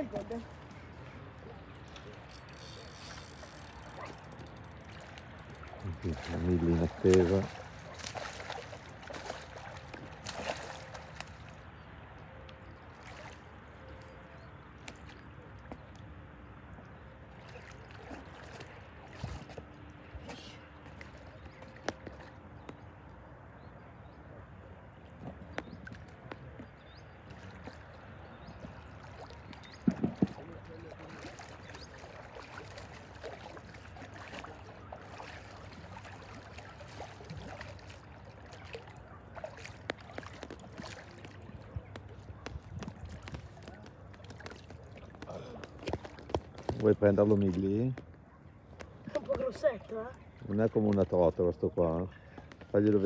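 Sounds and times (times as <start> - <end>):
water sloshing and splashing: 0.0 - 23.2, 25.0 - 53.0.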